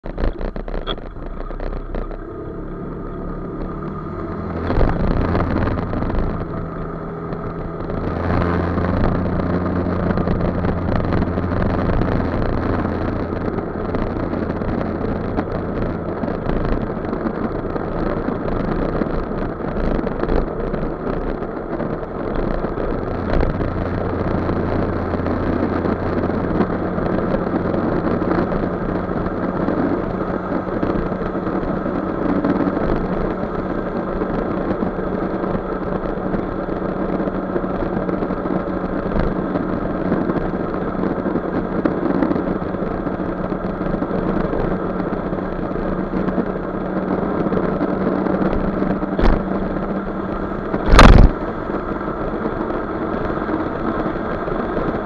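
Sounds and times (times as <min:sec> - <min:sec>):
motor scooter engine running: 0:00.0 - 0:55.0
wind and road noise: 0:00.0 - 0:55.0.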